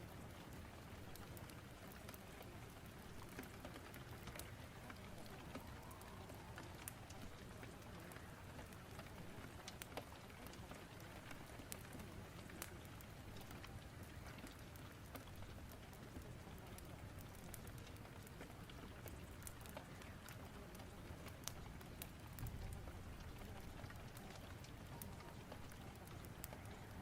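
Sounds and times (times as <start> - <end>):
faint rain hiss: 0.0 - 27.0
fire crackling: 0.0 - 27.0.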